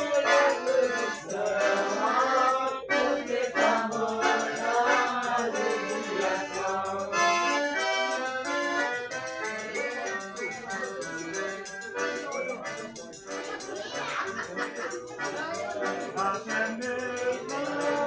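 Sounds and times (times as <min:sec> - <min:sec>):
accordion music: 0:00.0 - 0:18.0.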